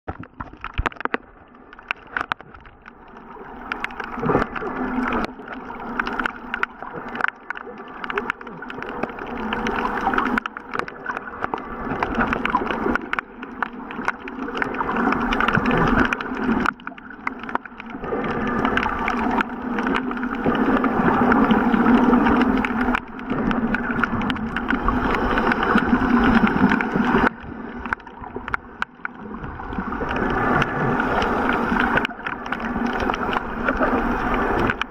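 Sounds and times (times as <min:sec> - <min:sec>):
small underwater clicks and knocks: 0:00.0 - 0:34.9
muffled underwater sloshing: 0:00.1 - 0:34.9.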